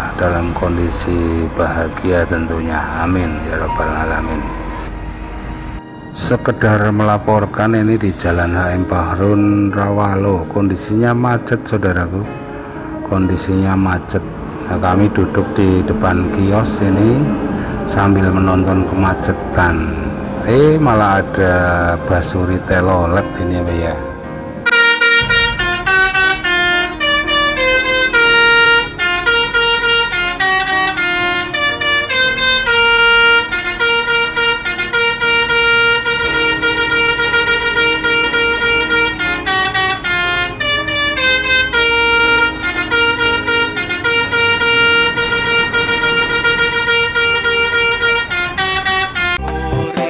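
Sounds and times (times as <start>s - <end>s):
low rumble of traffic: 0.0s - 49.5s
bus multi-tone air horn melody: 0.0s - 50.0s.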